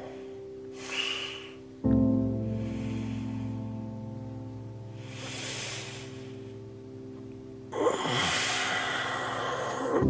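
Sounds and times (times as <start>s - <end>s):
held low chord: 0.0s - 10.0s.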